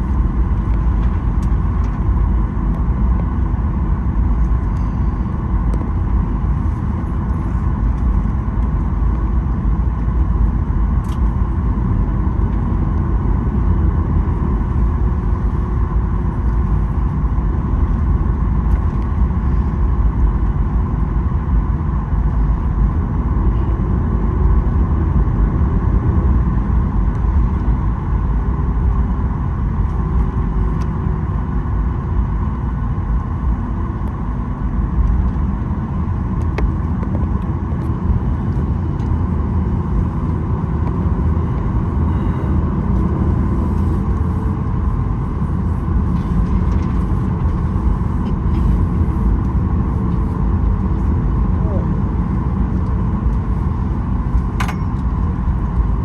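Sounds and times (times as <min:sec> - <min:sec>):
constant engine whine: 0:00.0 - 0:56.0
jet engines idling: 0:00.0 - 0:56.0.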